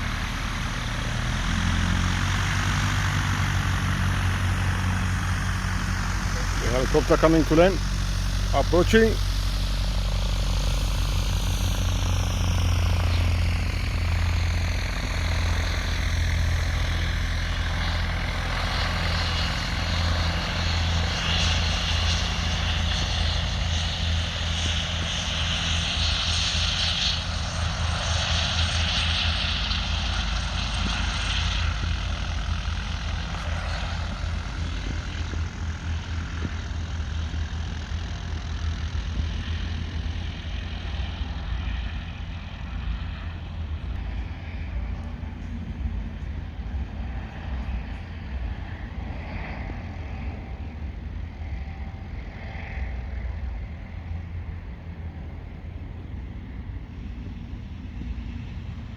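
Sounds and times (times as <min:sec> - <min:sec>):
aircraft engine running: 0:00.0 - 0:58.9.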